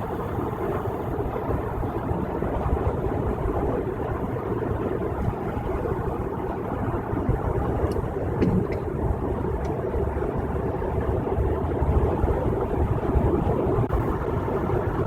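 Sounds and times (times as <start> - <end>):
car road and tyre noise: 0.0 - 15.0.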